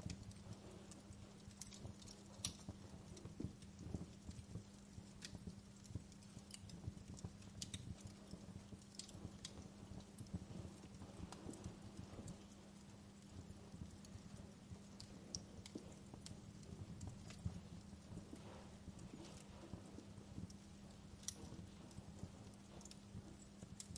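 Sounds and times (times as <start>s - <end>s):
faint steady hum: 0.0s - 23.9s
wood fire crackling: 0.0s - 23.9s.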